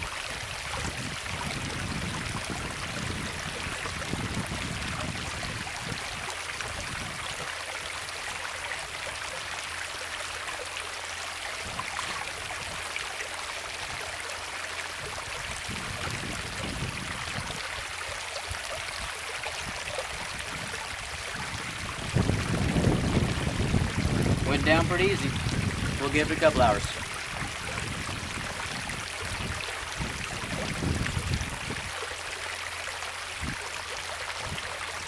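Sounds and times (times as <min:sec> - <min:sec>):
creek water flowing: 0:00.0 - 0:35.0.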